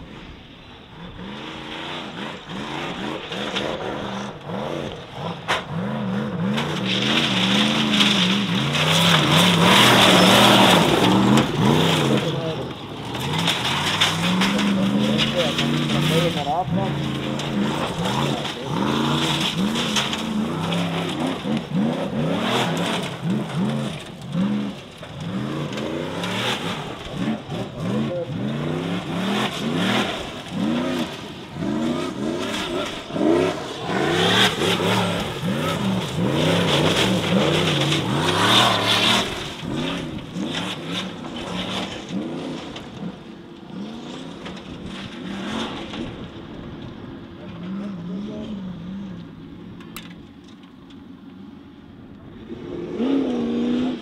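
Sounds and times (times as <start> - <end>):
buggy engine revving hard: 0.0 - 49.8, 52.2 - 54.0
tyres spinning on gravel: 0.0 - 54.0.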